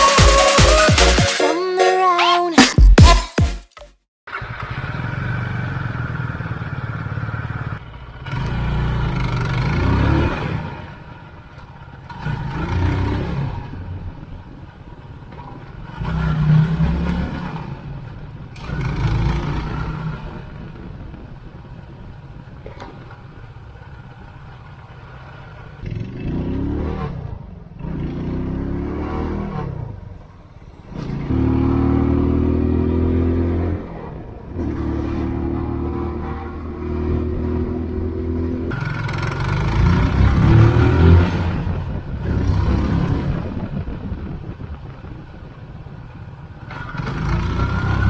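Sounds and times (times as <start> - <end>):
motorcycle engine revving: 4.3 - 48.0.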